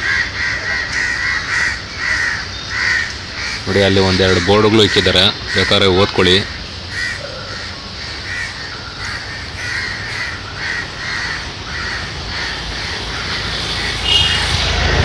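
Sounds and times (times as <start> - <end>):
crows cawing: 0.0 - 15.0.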